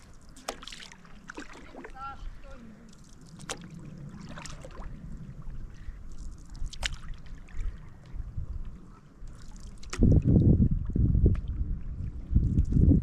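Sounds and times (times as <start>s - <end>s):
water sloshing and trickling: 0.0s - 13.0s
wind buffeting microphone: 1.6s - 13.0s.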